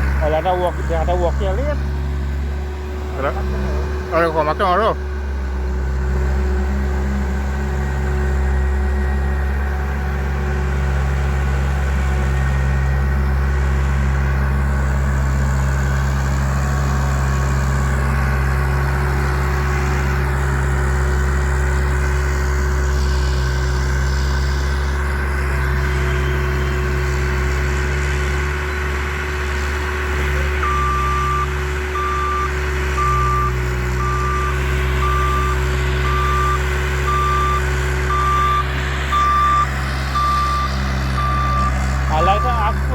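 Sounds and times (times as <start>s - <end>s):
machine engine running: 0.0s - 42.9s.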